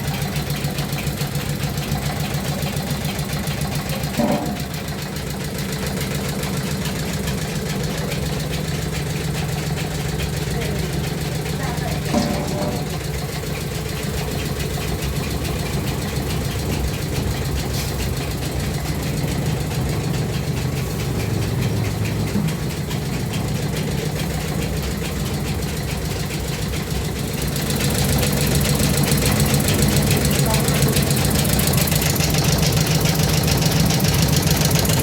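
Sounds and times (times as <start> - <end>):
mill machinery droning and knocking: 0.0 - 35.0.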